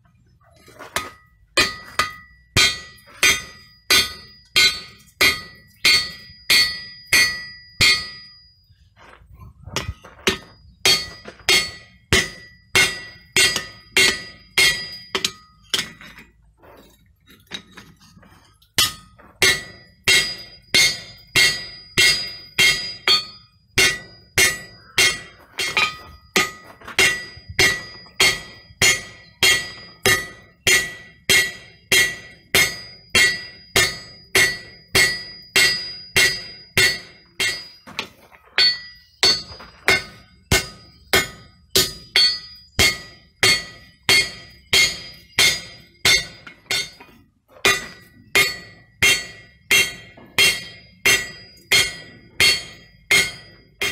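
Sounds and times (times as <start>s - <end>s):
hammer blows ringing on metal: 1.0s - 8.5s, 9.7s - 16.0s, 18.8s - 38.0s, 38.6s - 53.9s.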